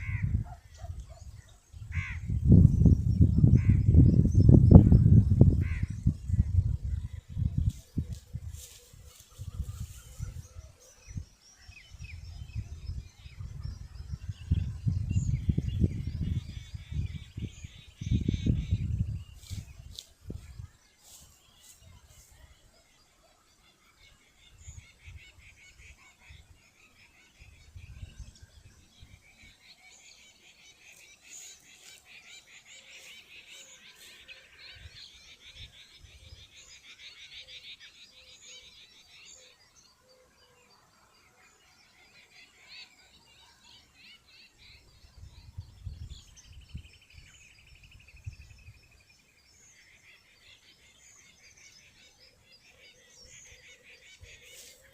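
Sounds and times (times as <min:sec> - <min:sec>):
small birds chirping and trilling: 0:00.0 - 0:54.9.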